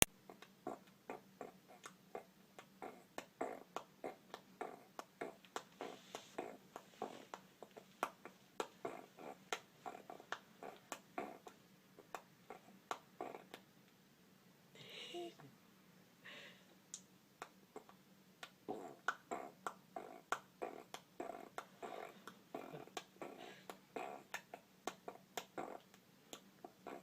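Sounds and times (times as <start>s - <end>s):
baby making mouth clicks: 0.3s - 1.0s, 1.7s - 2.0s, 2.6s - 13.7s, 16.9s - 27.0s.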